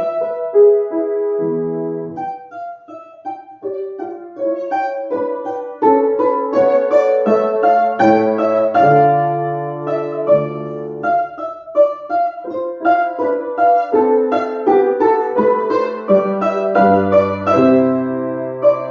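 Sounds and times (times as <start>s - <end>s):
solo piano classical piece: 0.0s - 18.9s.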